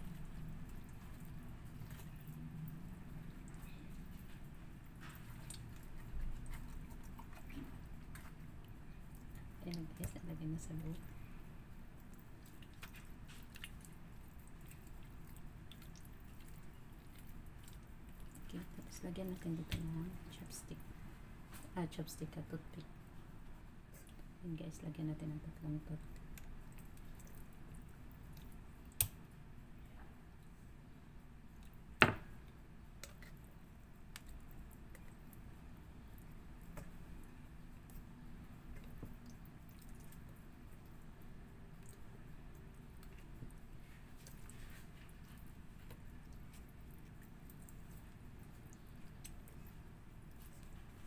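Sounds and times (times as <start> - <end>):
wet squishing of chicken skin: 0.0 - 10.2, 10.9 - 20.1, 26.1 - 29.5, 32.4 - 51.0.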